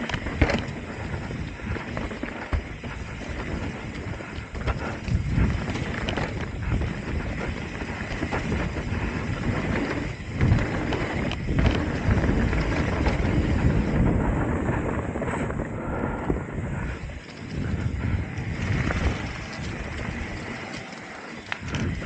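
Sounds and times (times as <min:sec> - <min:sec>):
bike clattering over bumps: 0:00.0 - 0:22.0
bike tyres rolling over dirt: 0:00.0 - 0:22.0
wind buffeting microphone: 0:00.0 - 0:22.0.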